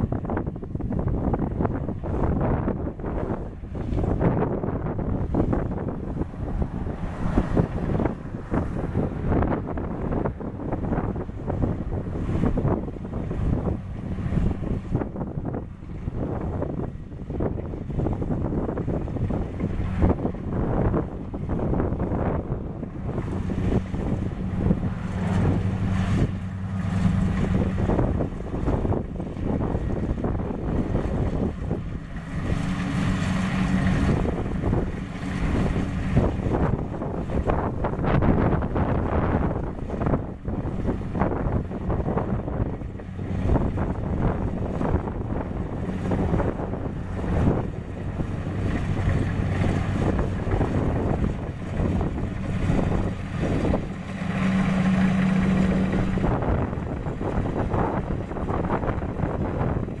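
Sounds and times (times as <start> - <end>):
rough gusty noise: 0.0 - 60.0
diesel engine humming: 0.1 - 60.0.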